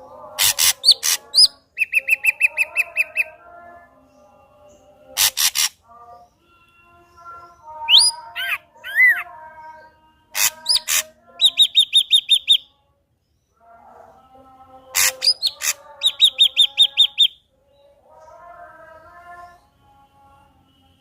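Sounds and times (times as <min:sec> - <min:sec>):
bird singing varied song: 0:00.0 - 0:21.0.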